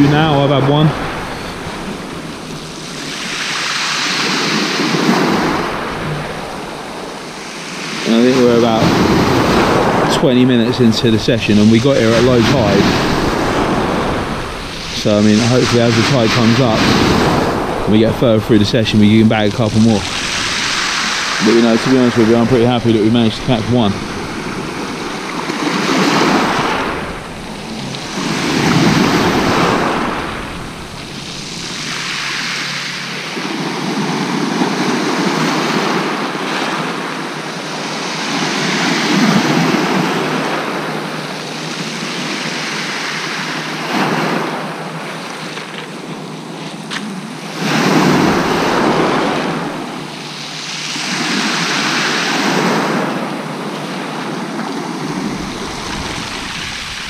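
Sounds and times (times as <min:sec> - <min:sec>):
surf breaking on shingle beach: 0:00.0 - 0:57.0.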